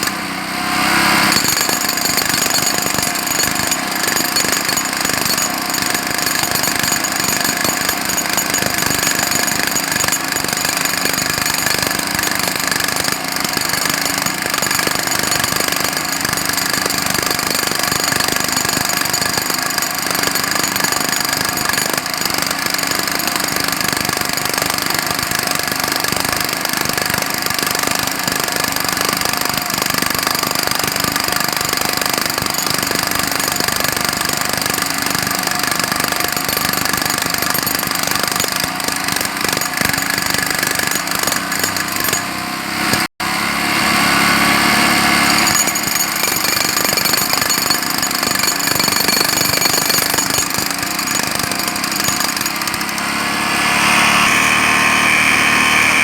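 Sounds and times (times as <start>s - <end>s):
jackhammer hammering: 0.0s - 56.0s.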